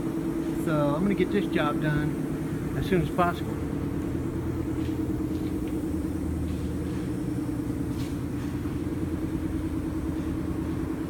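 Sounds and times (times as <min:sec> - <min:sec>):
low machine drone: 0:00.0 - 0:11.0.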